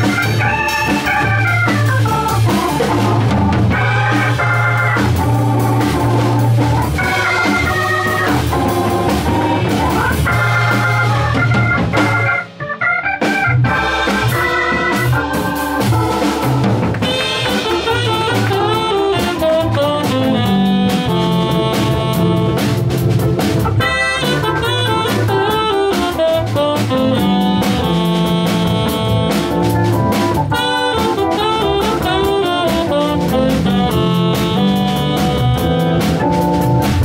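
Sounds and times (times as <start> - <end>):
bass part: 0.0 - 37.0
drum kit: 0.0 - 37.0
electric guitar: 0.0 - 37.0
organ: 0.0 - 37.0.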